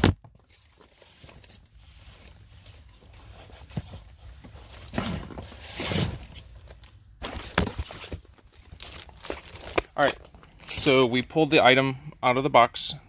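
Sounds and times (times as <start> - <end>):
records rustling in cardboard box: 0.3 - 11.0.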